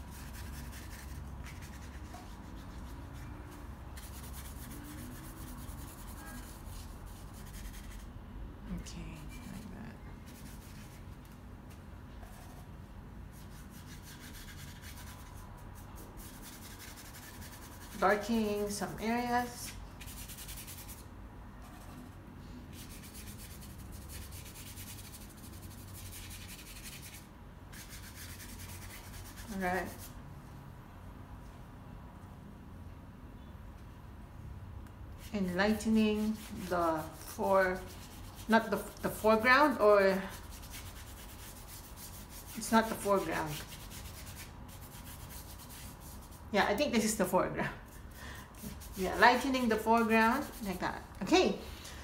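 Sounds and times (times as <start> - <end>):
paintbrush rubbing on paper: 0.0 - 8.2, 9.1 - 11.3, 12.2 - 30.2, 35.2 - 51.1
low steady hum: 0.0 - 52.0.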